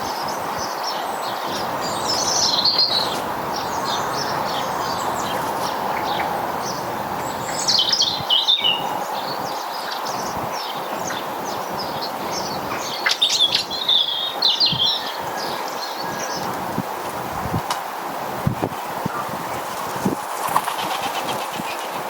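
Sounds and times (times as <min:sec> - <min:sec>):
small birds chirping and twittering: 0:00.0 - 0:22.0
steady background noise: 0:00.0 - 0:22.0.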